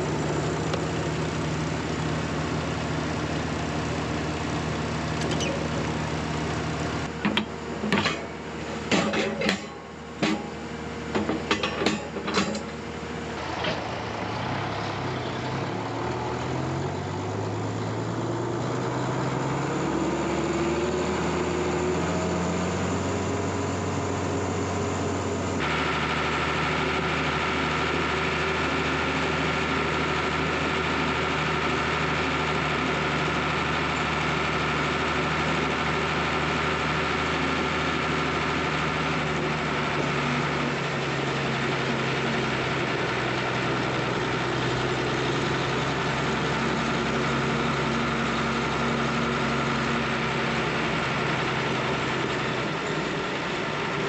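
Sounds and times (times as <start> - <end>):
heavy farm machinery engine: 0.0 - 54.0.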